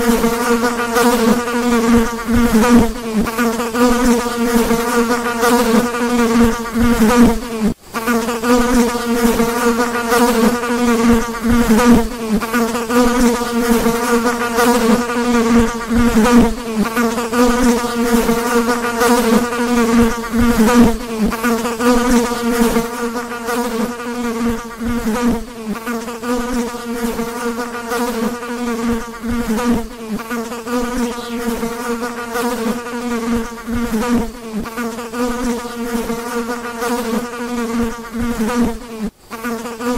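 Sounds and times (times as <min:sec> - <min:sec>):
fly buzzing: 0:00.0 - 0:39.9.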